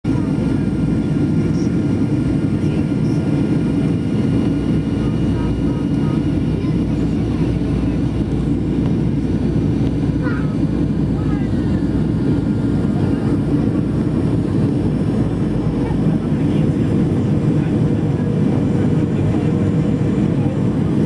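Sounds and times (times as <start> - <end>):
jet cabin engine rumble: 0.0 - 21.0.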